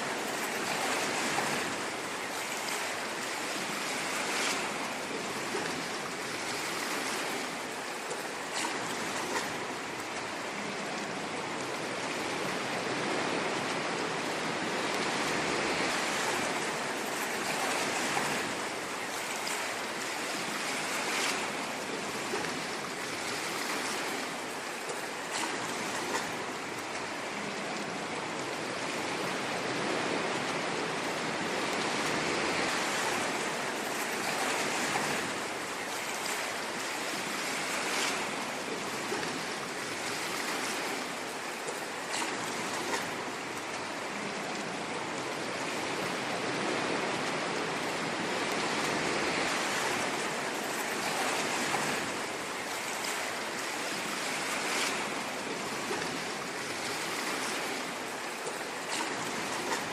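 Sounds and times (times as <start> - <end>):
ocean waves washing: 0.0 - 59.9
water splashes: 0.0 - 59.9.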